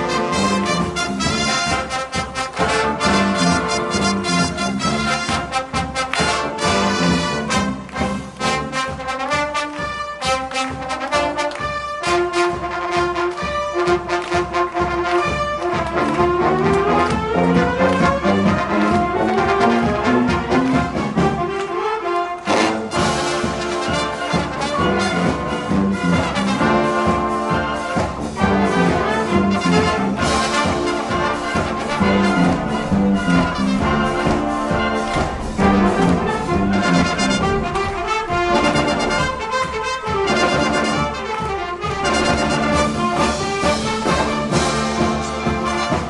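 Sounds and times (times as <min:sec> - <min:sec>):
drums with steady beat: 0:00.0 - 0:21.6, 0:22.5 - 0:46.0
brass instruments playing: 0:00.0 - 0:46.0.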